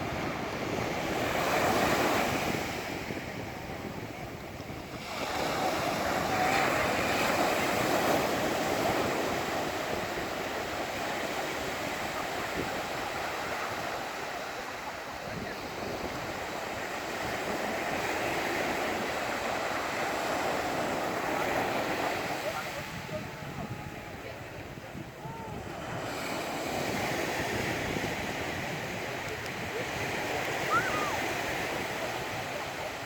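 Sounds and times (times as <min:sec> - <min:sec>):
surf washing on shore: 0:00.0 - 0:33.0
wind on microphone: 0:00.0 - 0:33.0.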